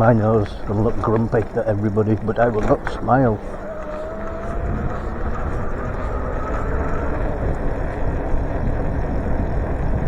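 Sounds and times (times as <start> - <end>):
road rumble: 0.0 - 10.0
wind rush on microphone: 0.0 - 10.0.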